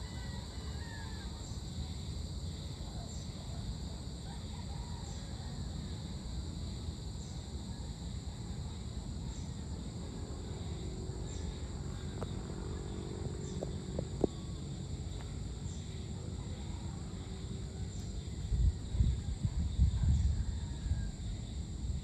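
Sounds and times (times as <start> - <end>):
continuous low rumble: 0.0 - 22.0
faint hum: 0.0 - 22.0
high-pitched insect chorus: 0.0 - 22.0.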